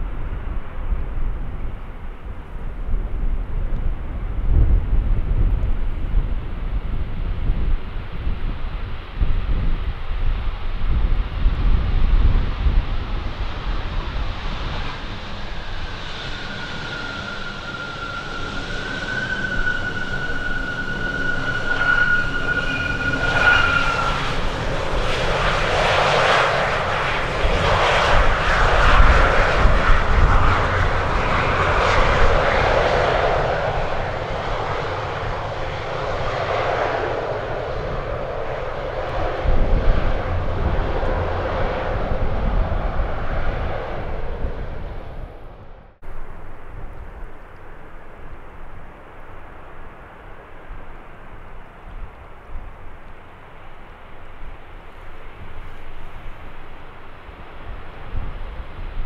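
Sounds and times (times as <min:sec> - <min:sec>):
jet engine whine: 0:00.0 - 0:59.0
wind rumbling on microphone: 0:00.0 - 0:59.0.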